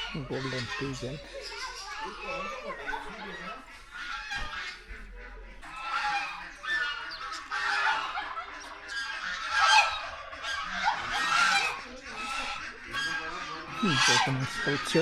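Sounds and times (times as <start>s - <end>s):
birds making harsh calls: 0.0s - 15.0s.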